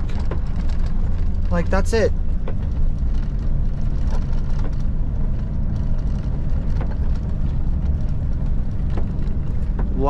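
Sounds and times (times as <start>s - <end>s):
truck engine rumble from cab: 0.0s - 10.0s.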